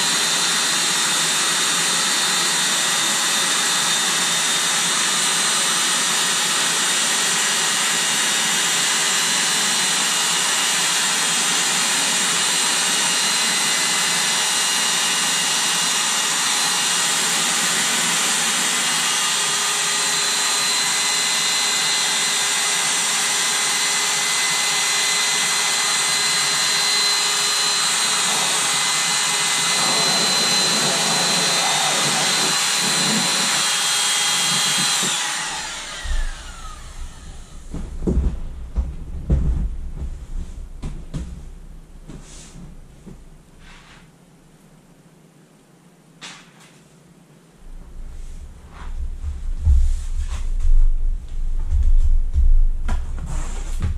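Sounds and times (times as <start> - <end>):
electric air pump running: 0.0 - 43.9, 47.6 - 53.9.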